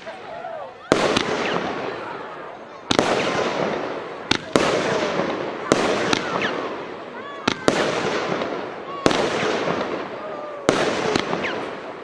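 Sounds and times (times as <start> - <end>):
firework crackling: 0.0 - 12.0
firework reports: 0.0 - 12.0.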